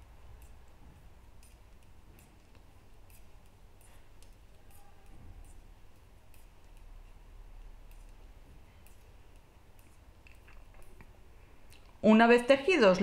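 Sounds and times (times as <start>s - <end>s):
metal knitting needles clicking: 0.1s - 11.9s.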